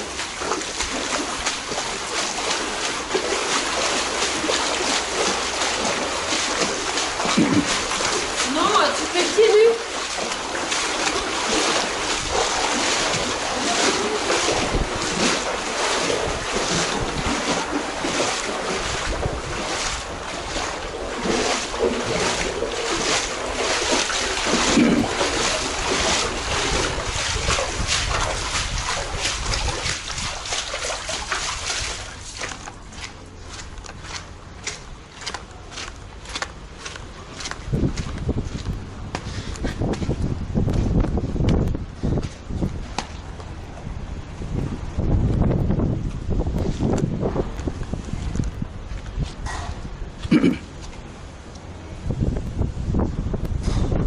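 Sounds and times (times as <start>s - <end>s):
wind on microphone: 0.0s - 32.5s, 37.1s - 50.7s, 51.8s - 54.0s
floodwater splashing: 0.0s - 54.0s.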